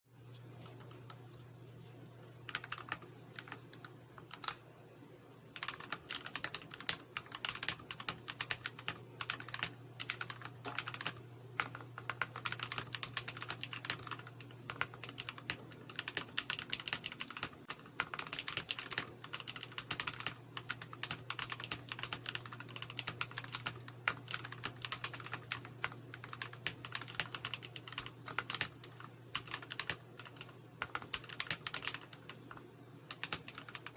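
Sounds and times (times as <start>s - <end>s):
faint low hum: 0.1s - 33.9s
mechanical keyboard typing: 2.5s - 4.6s, 5.6s - 33.9s.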